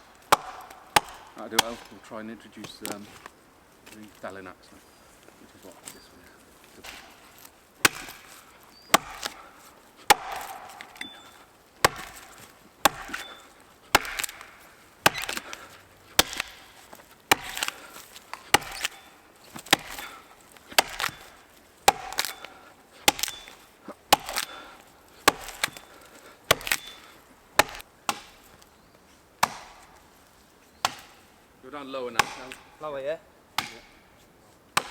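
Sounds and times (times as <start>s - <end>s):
axe chopping into wood: 0.2s - 3.0s, 6.7s - 28.6s, 29.4s - 30.0s, 30.8s - 31.3s, 32.1s - 32.9s, 33.5s - 34.9s.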